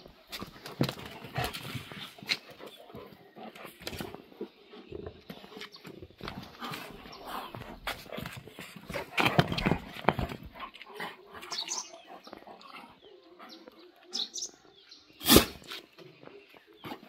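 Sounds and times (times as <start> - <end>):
dogs play-fighting: 0.0 - 14.1.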